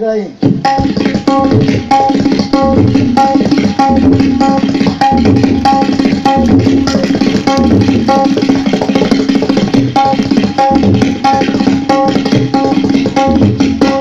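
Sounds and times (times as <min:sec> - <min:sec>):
tabla fast rhythm: 0:00.4 - 0:14.0.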